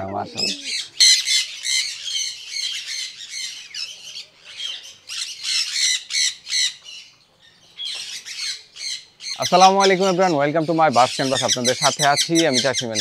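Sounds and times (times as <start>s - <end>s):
goslings peeping: 0.0s - 13.0s.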